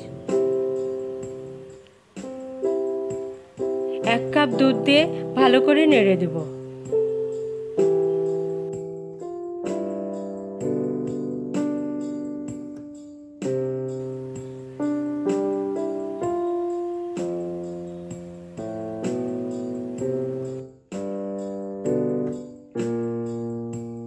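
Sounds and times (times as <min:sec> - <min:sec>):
piano chords: 0:00.0 - 0:24.0.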